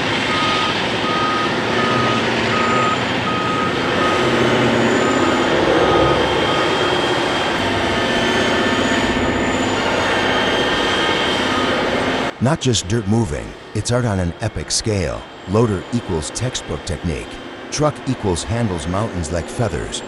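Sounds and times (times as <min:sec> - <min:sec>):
diesel engine running: 0:00.0 - 0:20.0
reversing alarm beeping: 0:00.2 - 0:12.3, 0:13.7 - 0:20.0.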